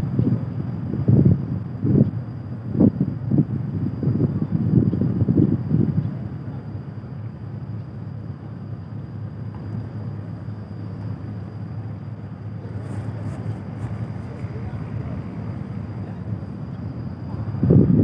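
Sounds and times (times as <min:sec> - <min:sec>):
faint high whine: 0:00.0 - 0:18.0
ship machinery hum: 0:00.0 - 0:18.0.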